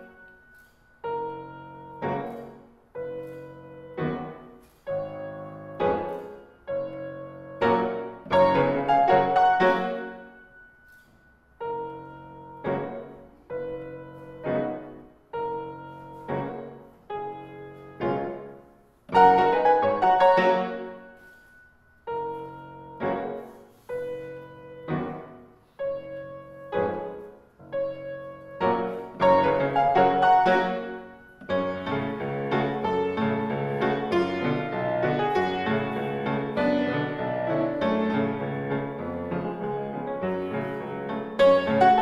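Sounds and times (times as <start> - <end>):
grand piano playing: 0.0 - 42.0.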